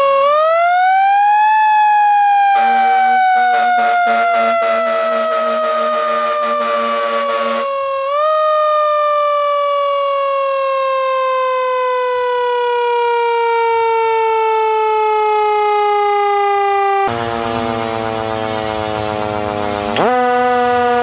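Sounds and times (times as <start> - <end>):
buzzy siren sound: 0.0 - 21.0
siren tone falling in pitch: 0.0 - 21.0.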